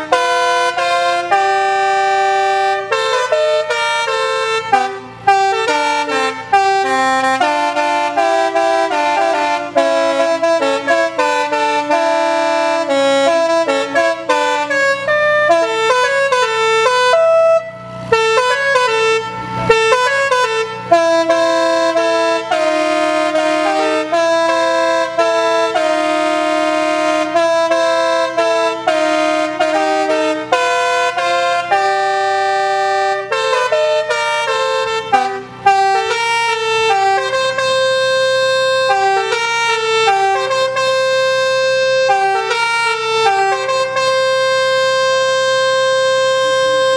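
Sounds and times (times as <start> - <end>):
horns playing a tune: 0.0 - 46.9.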